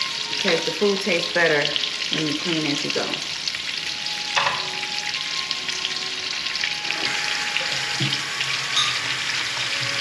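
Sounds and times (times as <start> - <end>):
sausage sizzling in a pan: 0.0 - 10.0.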